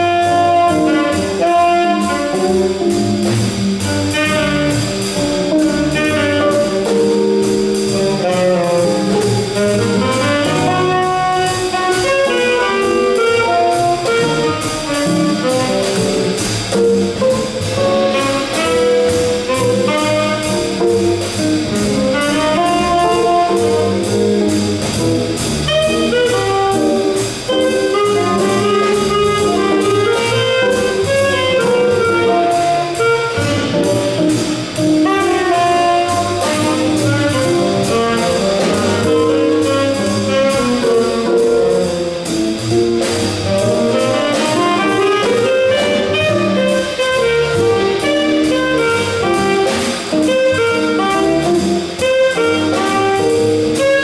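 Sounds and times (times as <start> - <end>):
drum kit cymbal beat: 0.0 - 54.0
saxophone melody: 0.0 - 54.0
upright bass: 0.0 - 54.0.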